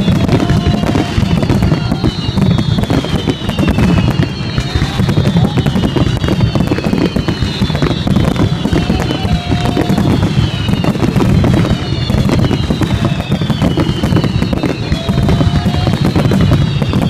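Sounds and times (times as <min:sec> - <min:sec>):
falling whistling tones: 0:00.0 - 0:17.0
fireworks booming: 0:00.0 - 0:17.0
fireworks crackling: 0:00.0 - 0:17.0.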